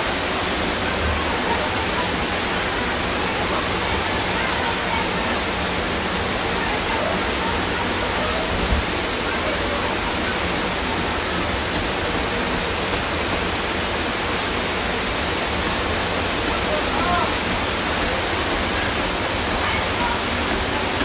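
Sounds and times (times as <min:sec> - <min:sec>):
heavy rain: 0:00.0 - 0:21.0
running floodwater: 0:00.0 - 0:21.0.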